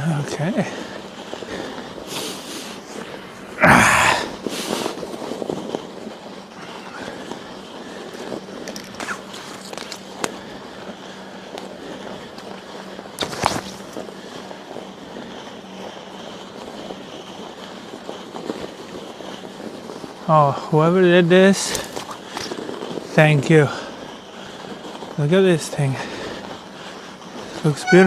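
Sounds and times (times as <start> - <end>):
bike tyres crunching snow: 0.4 - 25.1.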